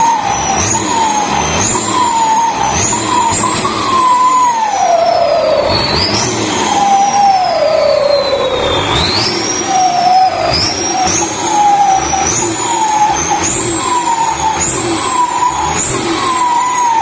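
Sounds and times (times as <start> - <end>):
diesel engine revving: 0.0 - 17.0
turbochargers whistling: 0.0 - 17.0.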